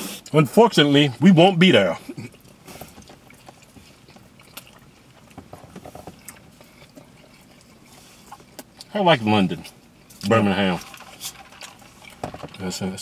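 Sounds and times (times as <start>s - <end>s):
person chewing food: 2.0s - 12.6s.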